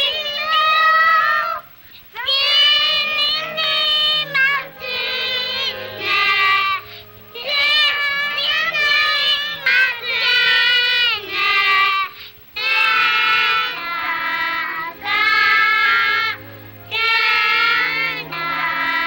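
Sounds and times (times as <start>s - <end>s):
young girls singing: 0.0s - 19.0s.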